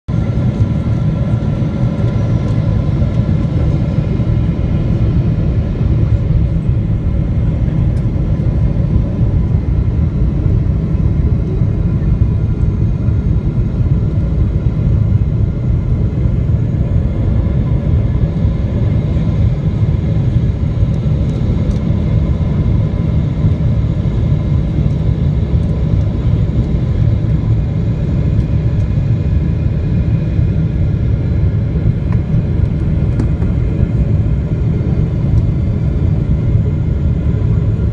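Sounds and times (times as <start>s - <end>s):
airliner engine rumble: 0.1s - 37.9s
faint turbine whine: 0.1s - 37.9s.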